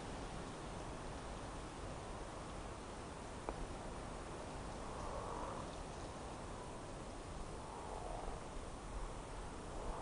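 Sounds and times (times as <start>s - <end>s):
wind buffeting microphone: 0.0s - 10.0s
wind hissing: 0.0s - 10.0s.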